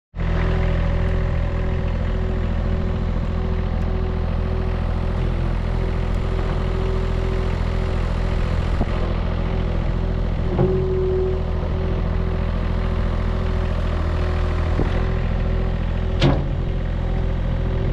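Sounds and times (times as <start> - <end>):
diesel engine idling: 0.2 - 17.9.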